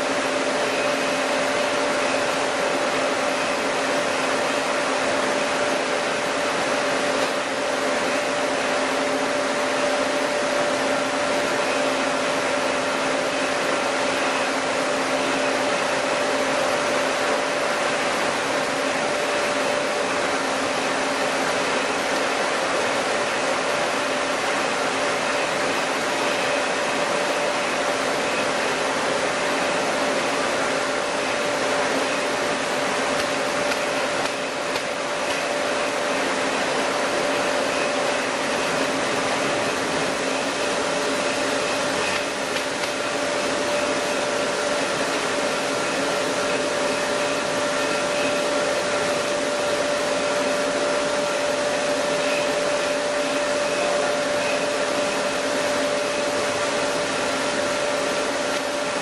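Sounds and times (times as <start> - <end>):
milling machine whirring: 0.0 - 59.0
steady machine whine: 0.0 - 59.0.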